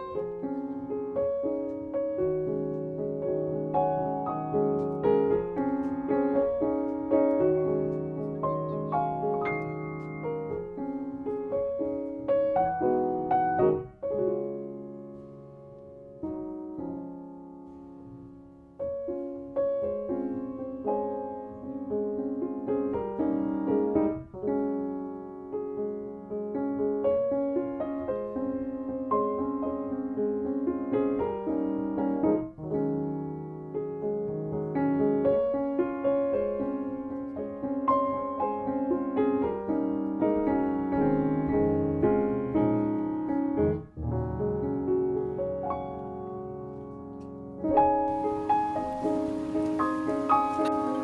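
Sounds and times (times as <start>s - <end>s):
gentle piano melody: 0.0s - 51.0s.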